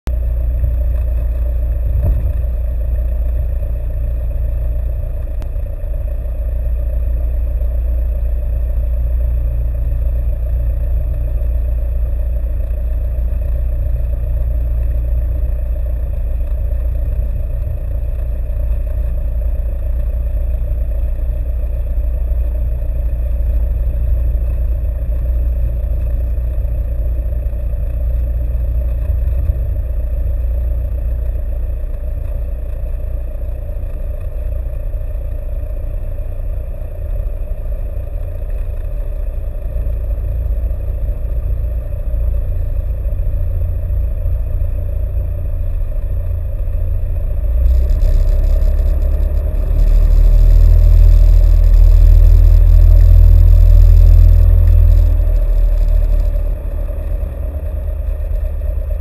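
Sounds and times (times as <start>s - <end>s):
small plane engine droning: 0.1s - 59.0s.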